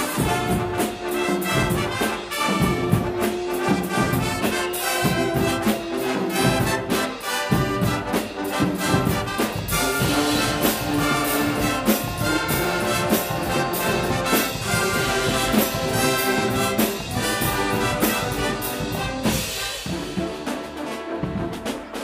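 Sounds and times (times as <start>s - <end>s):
brass band playing: 0.0s - 22.0s
drums and cymbals beat: 0.0s - 22.0s.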